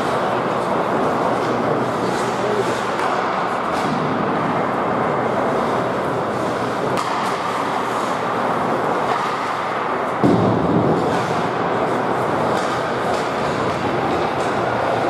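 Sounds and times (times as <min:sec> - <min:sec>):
ice rink ambience: 0:00.0 - 0:15.0.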